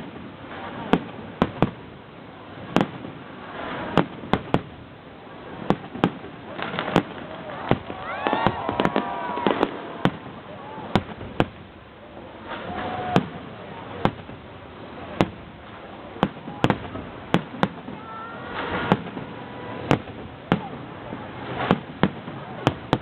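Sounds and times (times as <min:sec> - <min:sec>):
crowd chatter: 0:00.0 - 0:23.0
fireworks bangs: 0:00.0 - 0:23.0.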